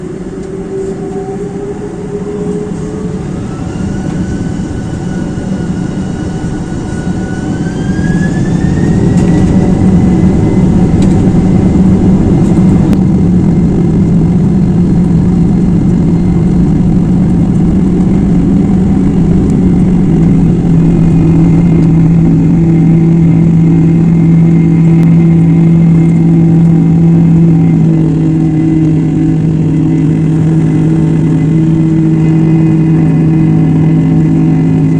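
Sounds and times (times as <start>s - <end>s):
jet engines spooling up: 0.0s - 34.9s.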